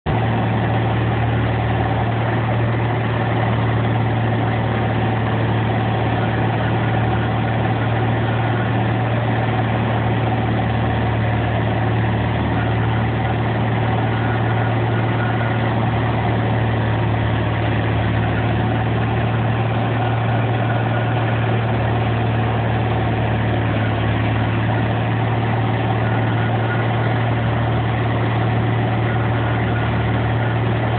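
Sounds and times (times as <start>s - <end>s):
grinder engine din: 0.1s - 30.9s
strong low hum: 0.1s - 30.9s.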